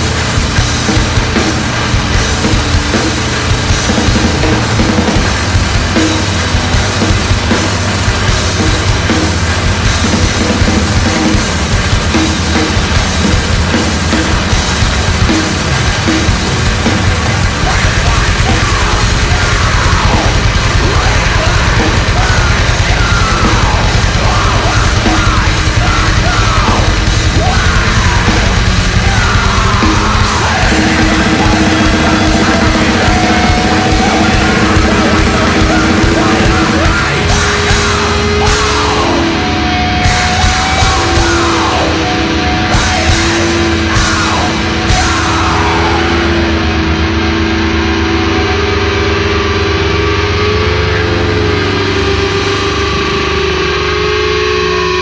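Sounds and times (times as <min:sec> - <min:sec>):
heavy metal band playing: 0:00.0 - 0:55.0
long held guitar notes: 0:00.0 - 0:55.0
yelled vocals: 0:00.0 - 0:55.0.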